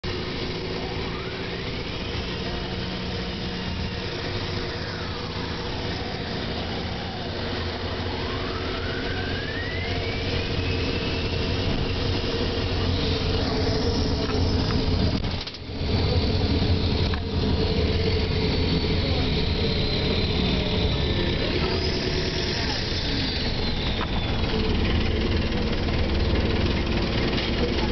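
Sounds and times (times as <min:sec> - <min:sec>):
bus diesel engine drone: 0:00.0 - 0:27.9
bus whine rising in pitch: 0:00.0 - 0:27.9.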